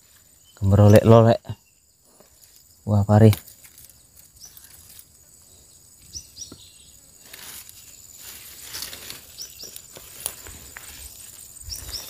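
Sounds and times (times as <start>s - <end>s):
high-pitched insect drone: 0.0s - 12.0s
rustling of leafy vines: 2.0s - 12.0s.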